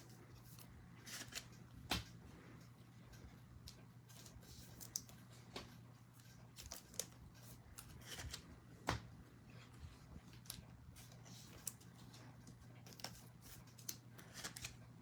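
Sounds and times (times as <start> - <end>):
cards clicking and rustling: 0.4 - 2.2, 3.8 - 9.6, 10.2 - 15.0.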